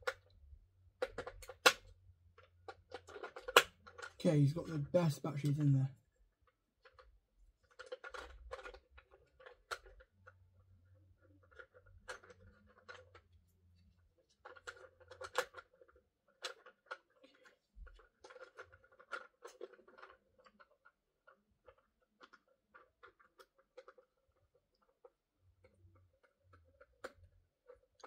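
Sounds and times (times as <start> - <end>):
plastic toy clicks and scratching: 0.0 - 0.4, 1.0 - 5.7, 6.4 - 28.0.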